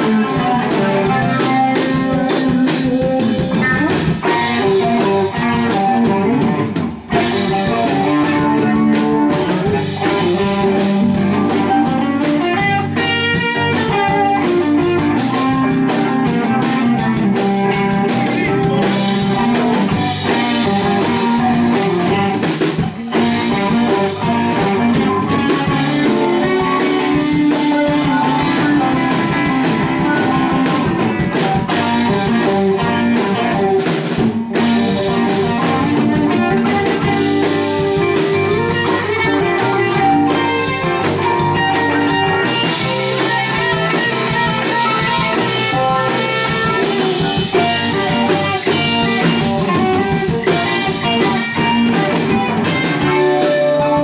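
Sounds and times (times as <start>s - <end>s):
drum kit blues-rock groove: 0.0s - 54.0s
electric guitar: 0.0s - 54.0s.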